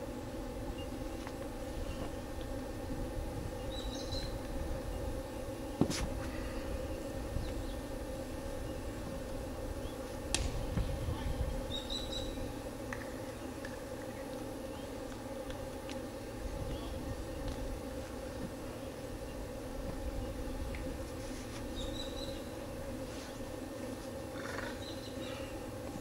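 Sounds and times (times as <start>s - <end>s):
low outdoor noise: 0.0s - 26.0s.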